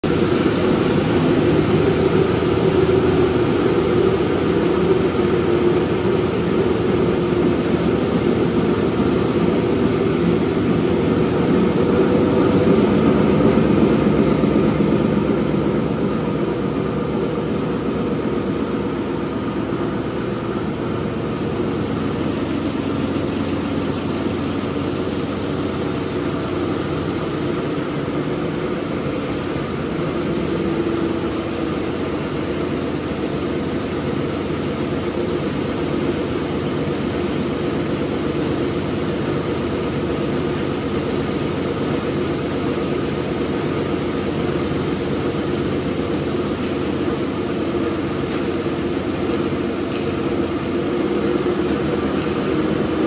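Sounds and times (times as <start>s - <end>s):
machine rollers running: 0.0s - 53.0s.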